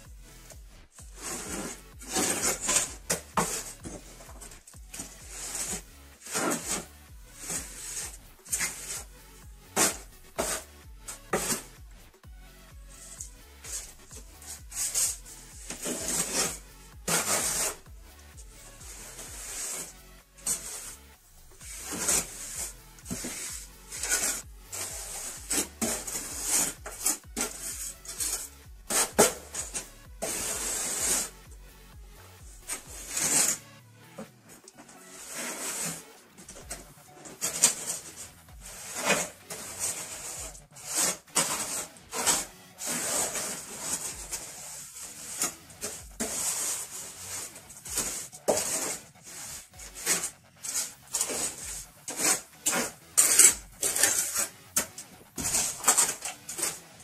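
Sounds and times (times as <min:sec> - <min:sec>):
rasping strokes on a surface: 0:00.0 - 0:57.0.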